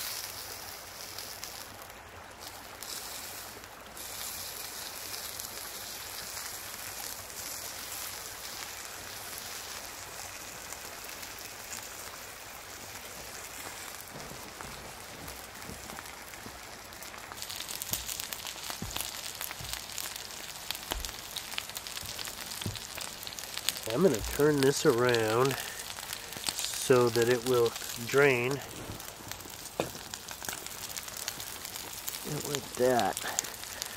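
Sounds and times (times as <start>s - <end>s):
steak sizzling on grill: 0.0s - 33.9s.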